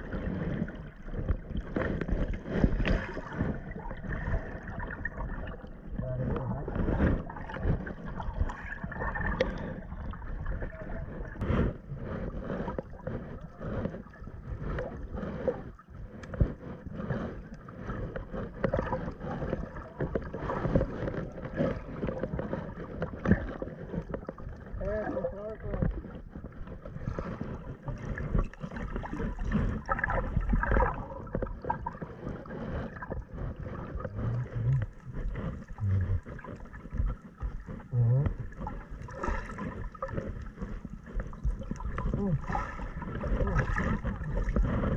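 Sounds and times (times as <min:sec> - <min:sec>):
muffled underwater sloshing: 0:00.0 - 0:44.9.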